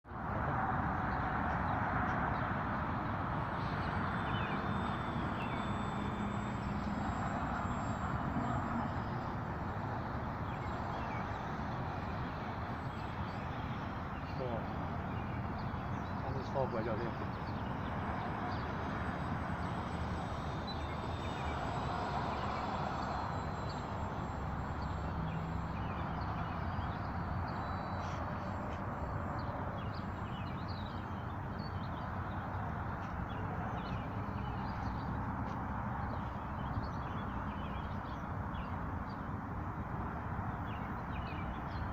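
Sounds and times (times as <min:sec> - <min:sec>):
jet engines passing: 0:00.1 - 0:37.6
faint high whine: 0:02.9 - 0:37.8.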